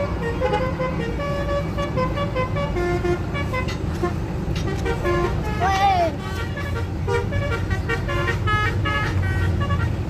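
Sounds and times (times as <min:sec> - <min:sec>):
bus engine rumble: 0:00.0 - 0:10.0
bus musical horn melody: 0:00.0 - 0:10.0.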